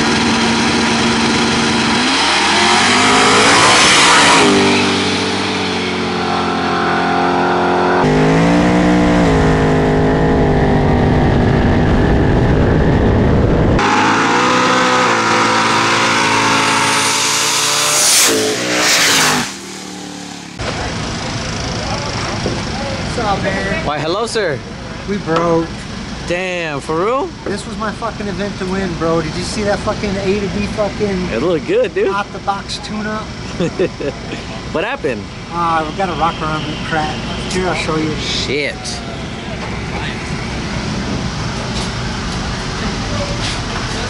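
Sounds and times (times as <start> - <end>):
race car engines accelerating: 0.0 - 44.0.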